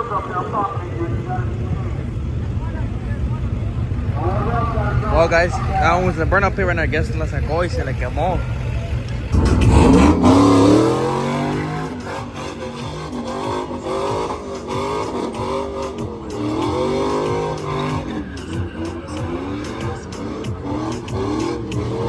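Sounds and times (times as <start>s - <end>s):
truck engine revving hard: 0.0s - 22.0s.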